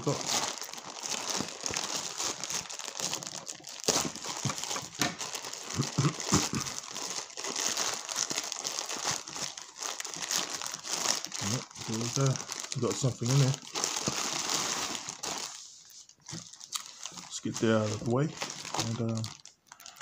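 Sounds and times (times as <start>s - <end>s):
plastic bag crinkling and tearing: 0.0s - 20.0s.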